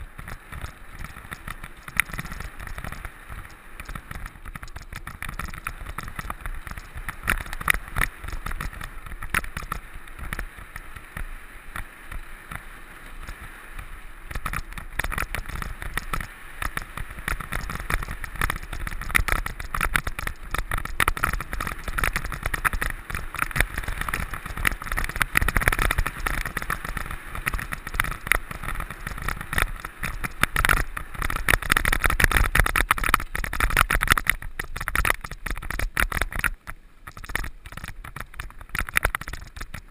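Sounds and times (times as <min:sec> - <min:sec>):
bike rattling over bumps: 0:00.0 - 0:39.9
tyre and wind rush: 0:00.0 - 0:39.9.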